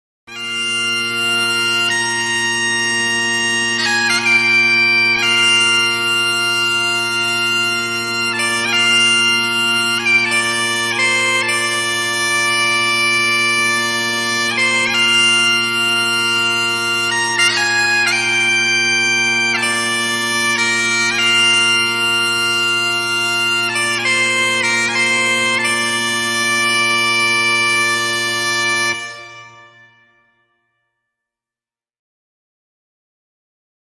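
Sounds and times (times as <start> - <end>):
bagpipes playing a tune: 0.3 - 30.4.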